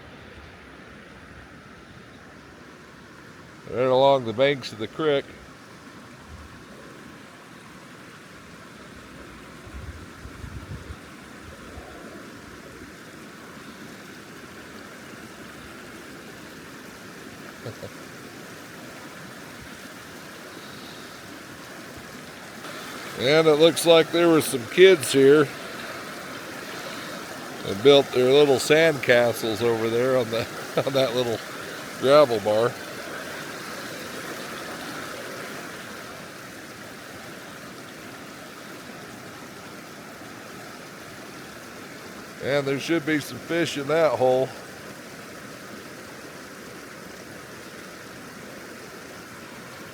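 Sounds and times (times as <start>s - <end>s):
creek water rushing: 0.0s - 49.9s.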